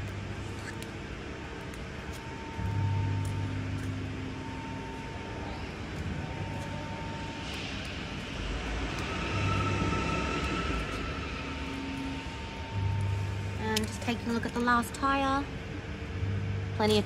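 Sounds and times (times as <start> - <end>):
mechanical drone with high whine: 0.0 - 17.0.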